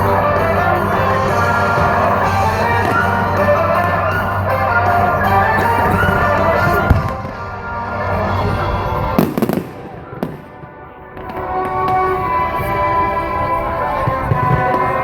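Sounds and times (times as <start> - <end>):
fireworks banging and crackling: 0.0 - 15.0
loud music: 0.0 - 15.0.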